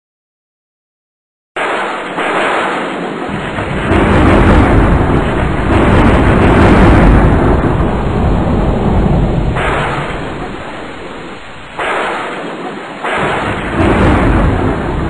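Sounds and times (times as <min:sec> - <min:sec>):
rolling thunder: 0:01.6 - 0:15.0
steady rain: 0:01.8 - 0:15.0.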